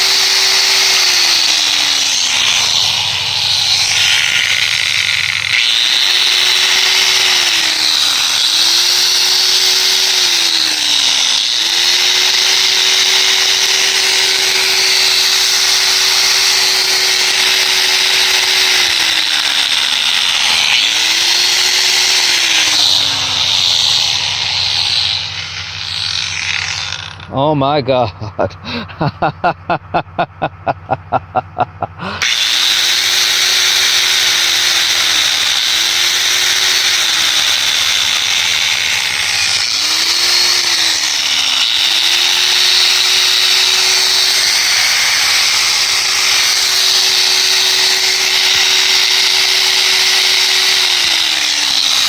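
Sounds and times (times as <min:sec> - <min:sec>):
angle grinder whining: 0:00.0 - 0:52.0.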